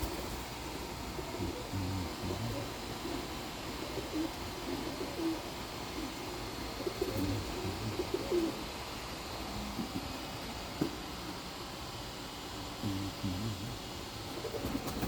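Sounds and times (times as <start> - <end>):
pigeons cooing: 0.0 - 10.9, 12.7 - 15.0.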